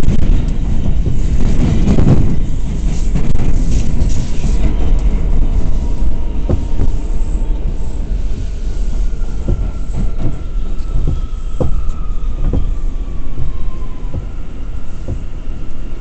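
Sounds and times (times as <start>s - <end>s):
subway car rumbling: 0.0s - 16.0s.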